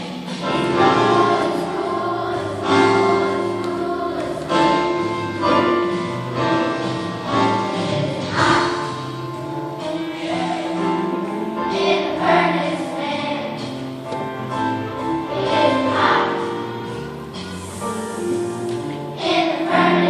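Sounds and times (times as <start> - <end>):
musical accompaniment: 0.0 - 20.0
choir singing: 0.4 - 13.8, 15.1 - 20.0.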